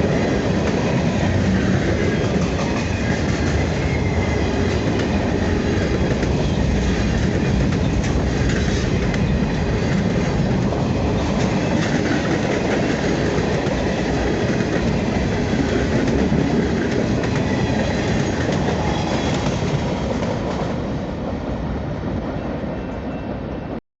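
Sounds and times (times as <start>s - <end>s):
freight train wheels clacking: 0.0s - 21.0s.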